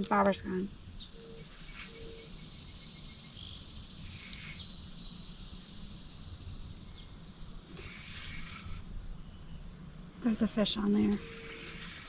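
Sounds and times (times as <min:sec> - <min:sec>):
high pulsing insect trill: 0:00.0 - 0:12.0
low steady background noise: 0:00.0 - 0:12.0.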